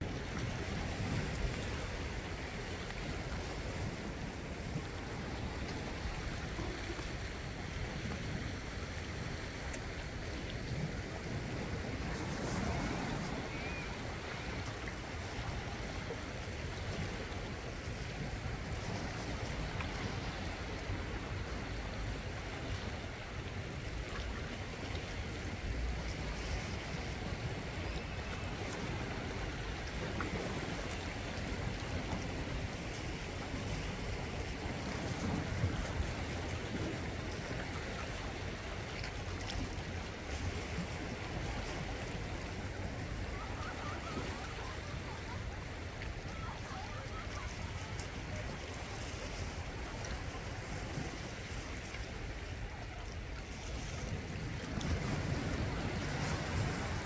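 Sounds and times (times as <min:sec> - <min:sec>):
waves washing over rocks: 0:00.0 - 0:57.0
wind on microphone: 0:00.0 - 0:57.0.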